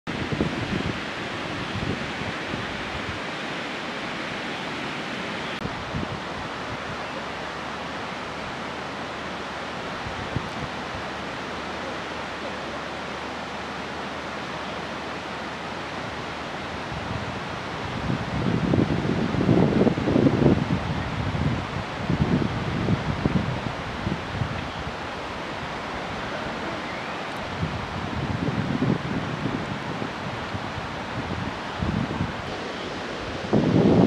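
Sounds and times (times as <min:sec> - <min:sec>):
wind buffeting microphone: 0:00.1 - 0:12.3, 0:15.0 - 0:34.0
river rushing: 0:00.1 - 0:34.0.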